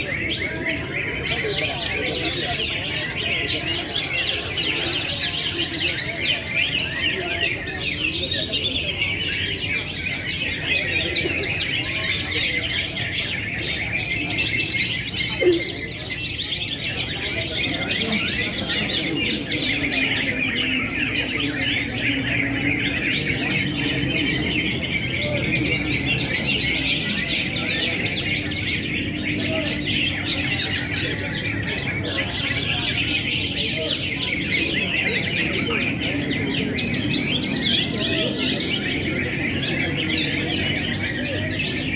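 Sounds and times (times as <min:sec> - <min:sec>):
crowd murmur: 0:00.0 - 0:41.9
songbirds chirping and singing: 0:00.0 - 0:41.9.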